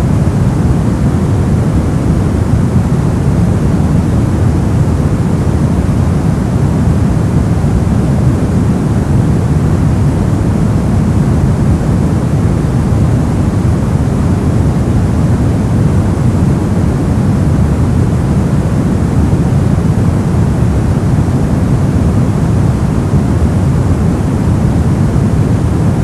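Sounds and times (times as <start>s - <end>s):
brown noise: 0.0s - 26.0s.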